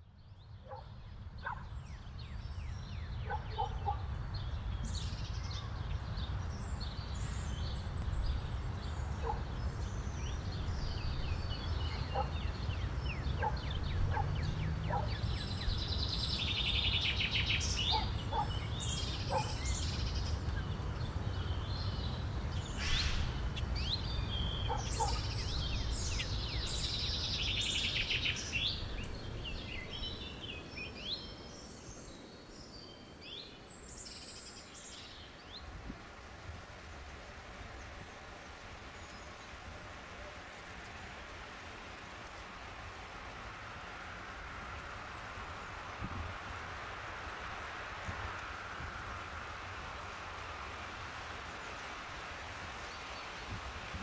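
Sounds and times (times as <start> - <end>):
birds chirping and trilling: 0.0 - 43.4.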